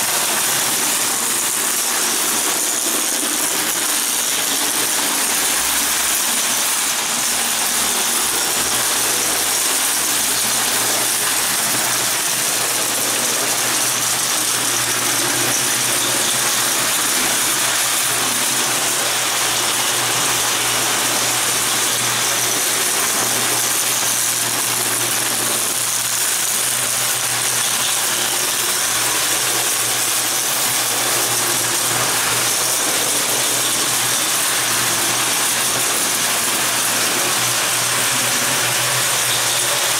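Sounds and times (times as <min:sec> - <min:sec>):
toy train motor humming: 0:00.0 - 0:39.9.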